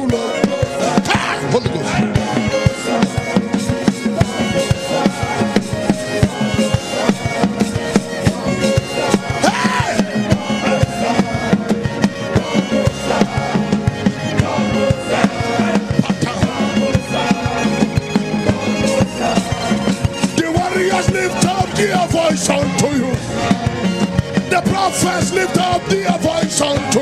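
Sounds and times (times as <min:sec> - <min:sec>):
busy drums: 0:00.0 - 0:27.0
keyboard chords: 0:00.0 - 0:27.0.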